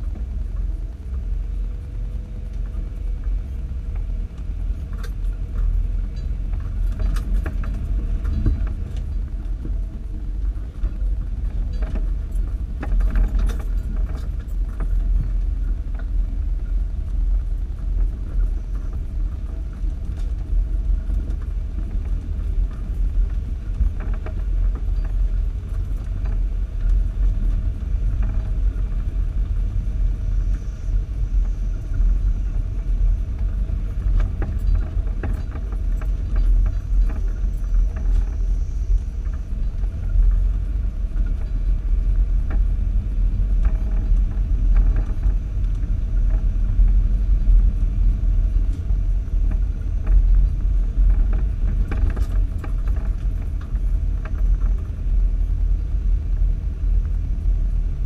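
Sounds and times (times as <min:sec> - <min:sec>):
vehicle engine and tyres rumbling: 0:00.0 - 0:58.0
vehicle rattles and knocks: 0:00.0 - 0:58.0.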